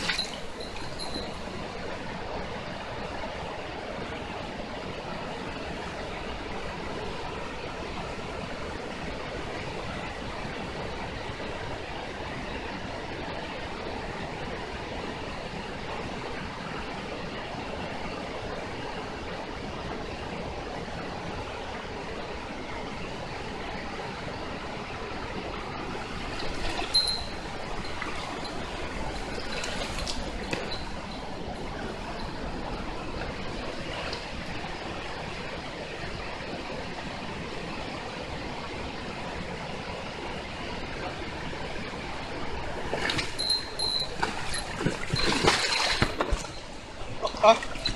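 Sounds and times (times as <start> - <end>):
stream water running: 0.0 - 47.9.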